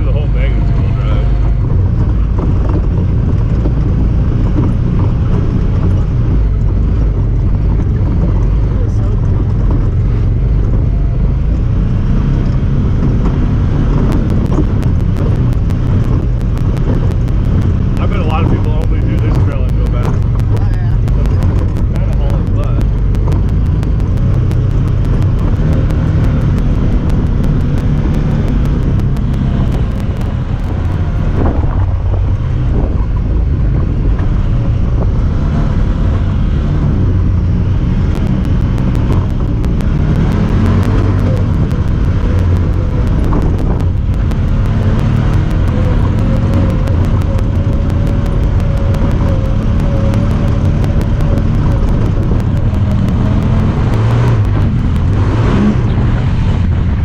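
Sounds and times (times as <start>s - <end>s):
rapid high camera ticking: 0.0s - 57.0s
vehicle engine running: 0.0s - 57.0s
wind on microphone: 9.2s - 57.0s.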